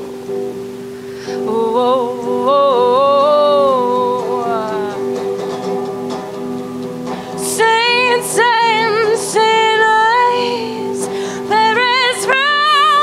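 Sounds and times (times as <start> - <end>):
woman singing slow song: 0.0 - 5.8, 7.0 - 13.0
guitar accompaniment: 0.0 - 13.0.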